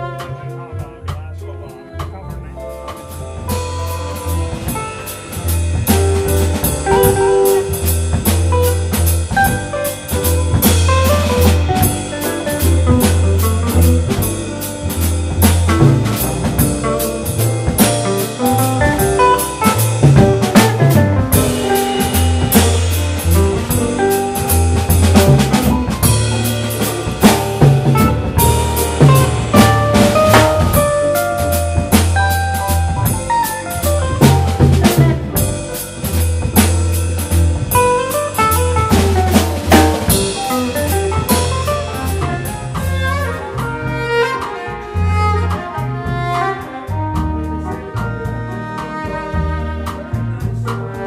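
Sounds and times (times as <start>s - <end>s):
electric keyboard: 0.0s - 50.6s
drum kit: 0.0s - 51.0s
walking double bass: 0.0s - 51.0s.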